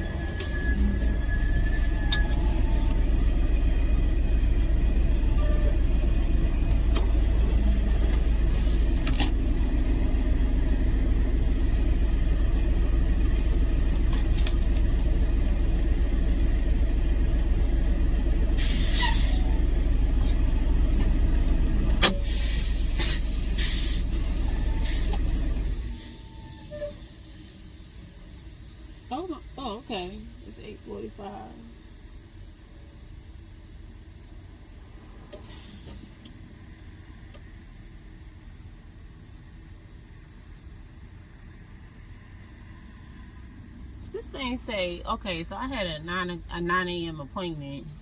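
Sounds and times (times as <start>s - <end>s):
truck rumbling: 0.0s - 48.0s.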